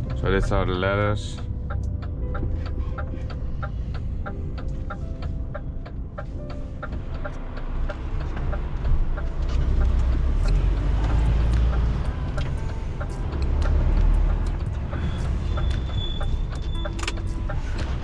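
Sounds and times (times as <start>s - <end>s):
truck engine rumbling: 0.0s - 18.0s
quick regular ticking: 1.4s - 18.0s.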